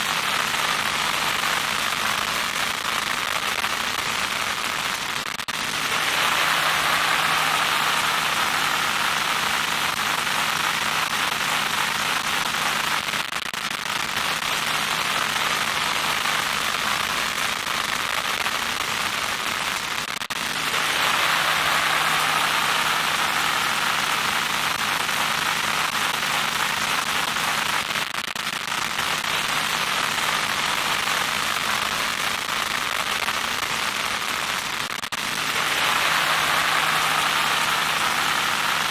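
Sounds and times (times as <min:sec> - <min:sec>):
crackling static hiss: 0:00.0 - 0:38.9.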